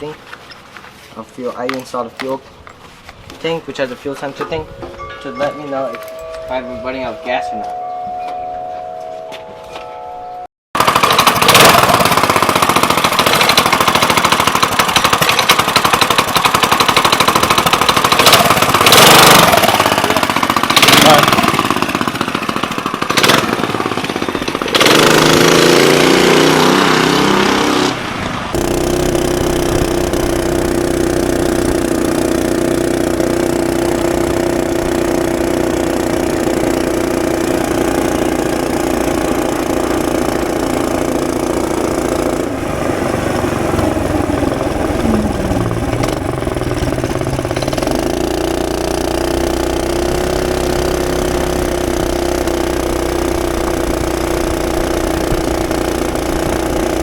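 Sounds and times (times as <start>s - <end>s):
mini bike engine revving: 10.8s - 57.0s.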